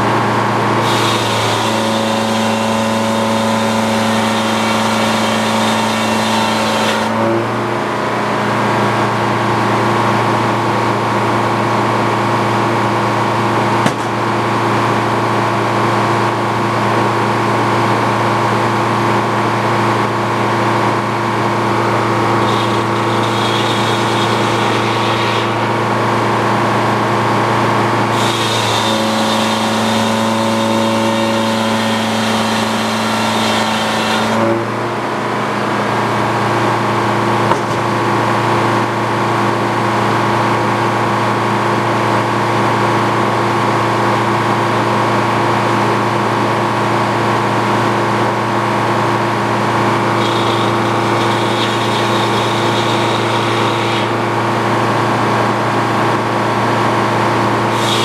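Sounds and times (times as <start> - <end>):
sawmill mechanical drone: 0.0 - 58.0.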